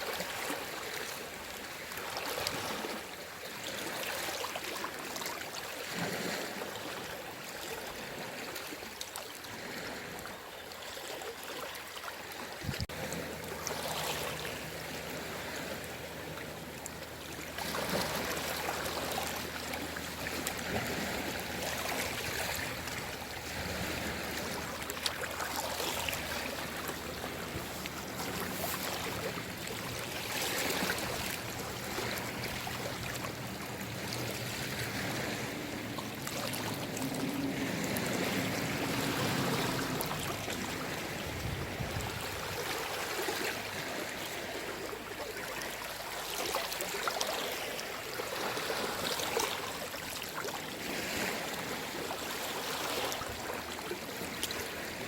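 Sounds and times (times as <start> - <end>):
small waves washing ashore: 0.0 - 55.0.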